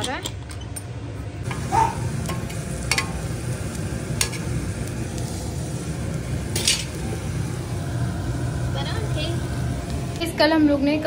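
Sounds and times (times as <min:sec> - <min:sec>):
low background rumble: 0:01.4 - 0:10.5.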